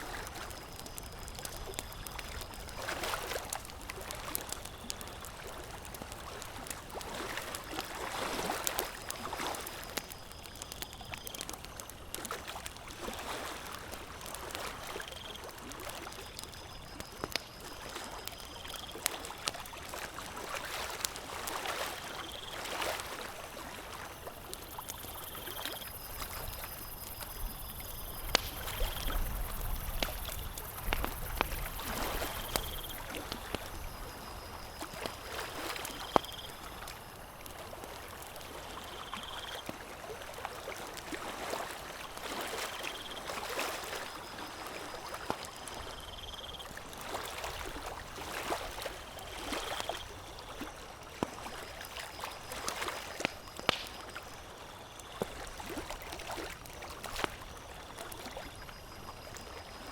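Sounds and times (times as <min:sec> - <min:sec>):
campfire crackling: 0:00.0 - 0:59.4
lake water lapping: 0:00.0 - 0:59.8.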